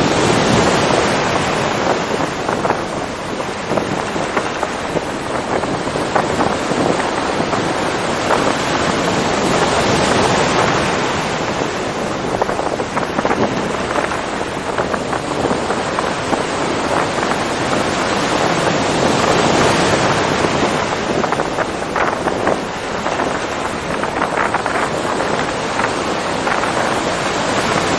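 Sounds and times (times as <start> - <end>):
ocean surf washing in: 0.0 - 27.9.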